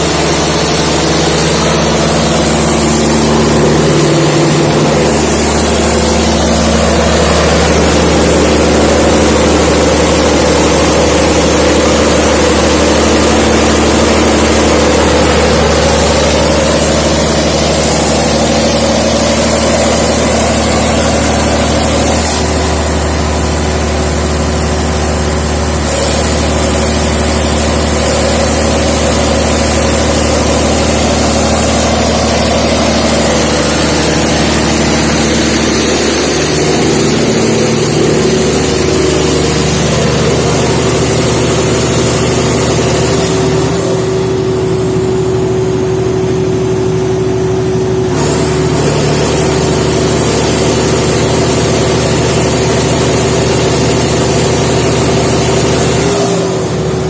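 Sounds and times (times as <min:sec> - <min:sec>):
diesel generator running: 0:00.0 - 0:57.0
high whine: 0:00.0 - 0:57.0.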